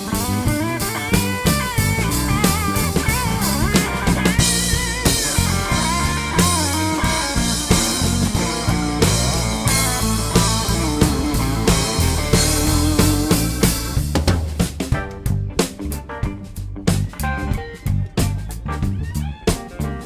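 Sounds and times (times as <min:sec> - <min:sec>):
drum kit beat: 0:00.0 - 0:20.0
live rock band instrumental: 0:00.0 - 0:20.0.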